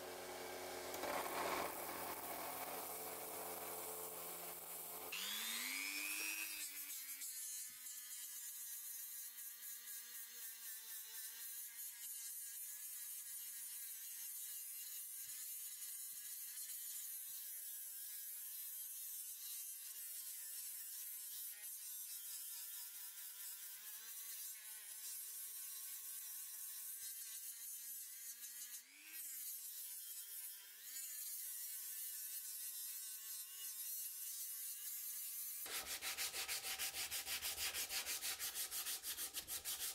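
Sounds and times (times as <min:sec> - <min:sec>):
rotary tool whining while sanding wood: 0:00.0 - 0:39.9.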